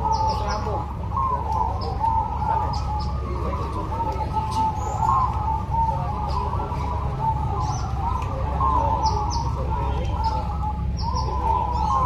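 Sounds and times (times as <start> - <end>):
doves cooing: 0.0 - 12.0
steady low background noise: 0.0 - 12.0.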